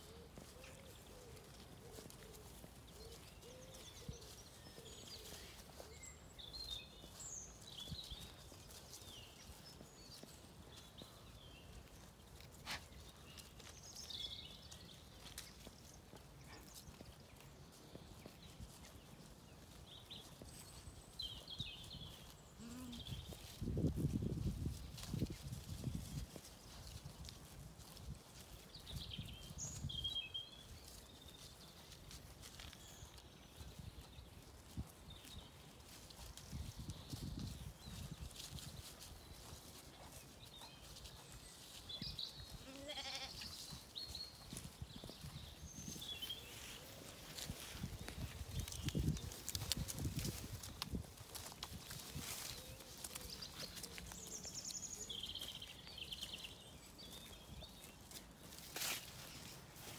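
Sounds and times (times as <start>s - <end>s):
soft low thumps of sheep grazing: 0.0s - 59.9s
songbirds singing: 0.0s - 59.9s.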